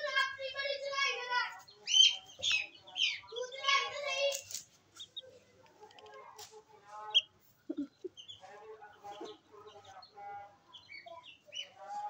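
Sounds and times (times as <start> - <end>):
high peeps of chicks: 0.0 - 12.0.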